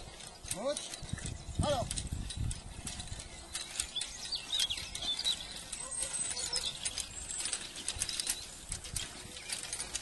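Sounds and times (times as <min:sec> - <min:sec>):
horse hooves: 0:00.0 - 0:10.0
metal implement rattling and clinking: 0:00.0 - 0:10.0.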